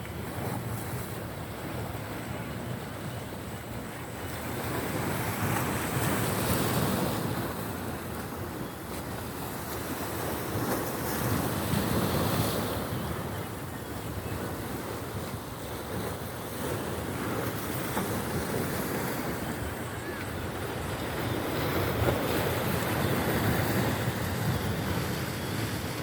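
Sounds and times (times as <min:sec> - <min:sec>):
sea waves washing ashore: 0:00.0 - 0:26.0
wind on microphone: 0:00.0 - 0:26.0.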